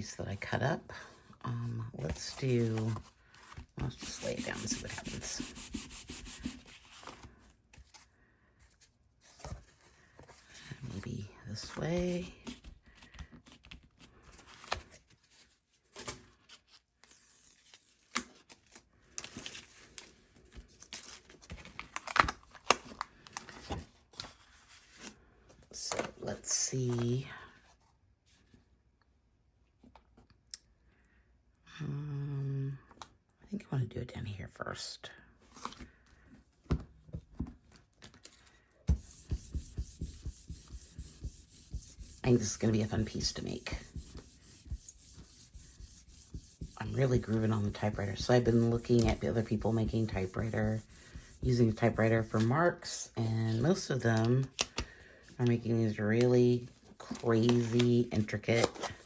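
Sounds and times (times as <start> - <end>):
cardboard and paper being handled: 1.9 - 28.6, 35.5 - 59.0.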